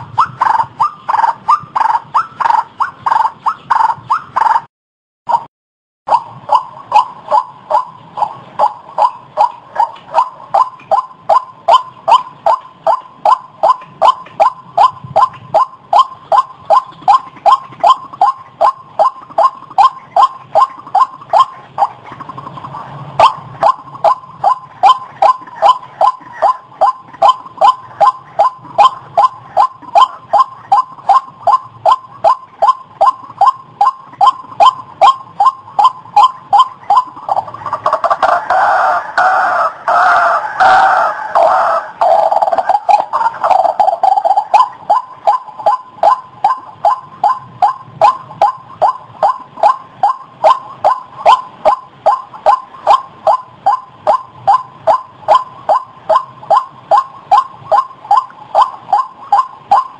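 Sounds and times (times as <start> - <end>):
bird calling harsh notes: 0.0 - 4.7, 6.1 - 59.9.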